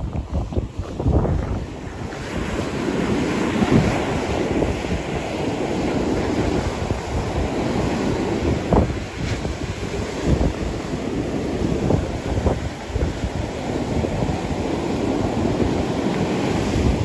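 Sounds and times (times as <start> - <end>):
surf washing up beach: 0.0 - 17.0
wind buffeting microphone: 0.0 - 17.0.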